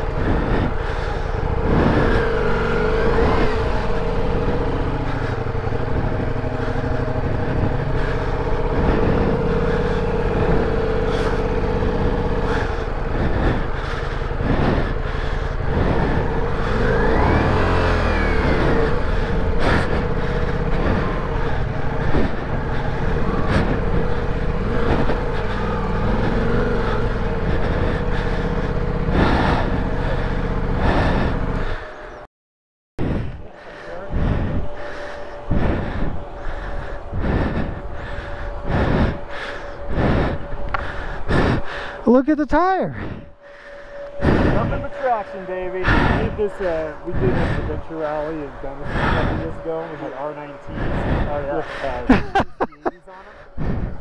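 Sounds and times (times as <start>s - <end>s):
motorcycle engine revving: 0.0s - 32.3s, 33.0s - 42.1s, 42.9s - 54.0s.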